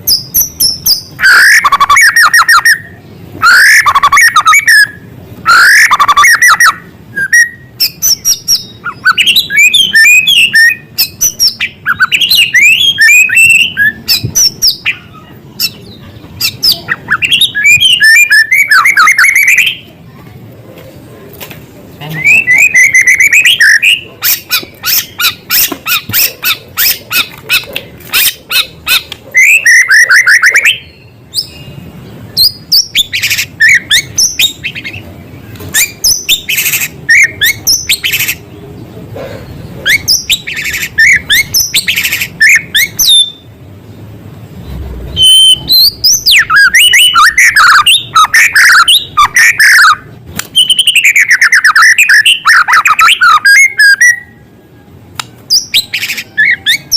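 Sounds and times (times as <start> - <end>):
songbird singing and mimicking: 0.0 - 20.0, 21.8 - 56.9.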